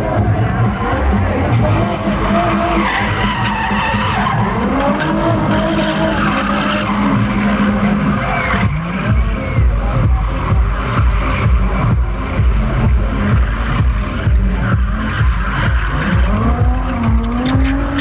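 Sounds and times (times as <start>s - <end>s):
car engine revving: 0.0s - 18.0s
music playing: 0.0s - 18.0s
tyres skidding and squealing: 0.0s - 18.0s.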